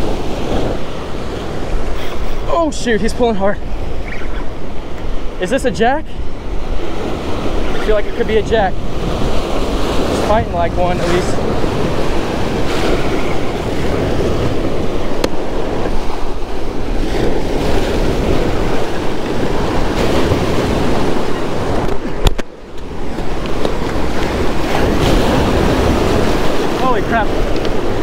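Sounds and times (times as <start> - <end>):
surf breaking over boulders: 4.9 - 28.0.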